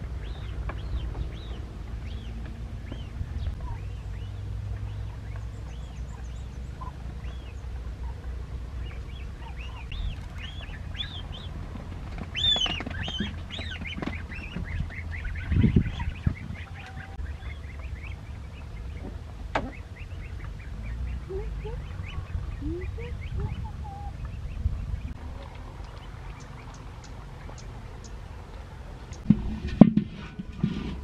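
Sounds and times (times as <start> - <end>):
low rumble: 0.0 - 31.0
chick peeping: 0.1 - 28.3.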